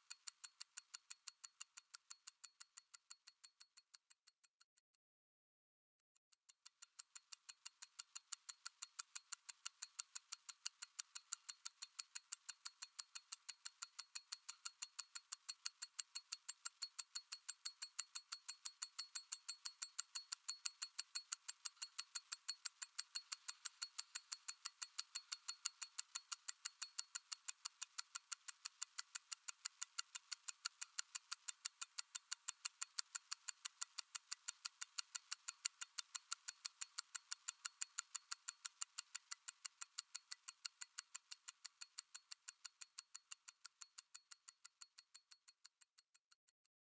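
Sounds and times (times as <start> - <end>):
mechanical watch ticking: 0.0 - 4.6, 6.4 - 46.5.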